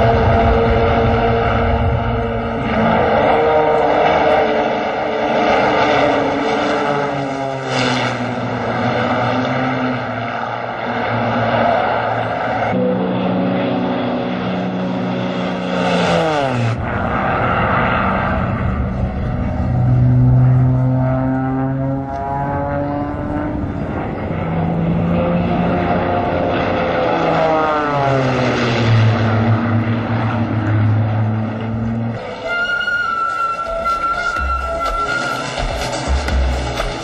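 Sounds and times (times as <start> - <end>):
propeller plane engine: 0.0 - 37.0.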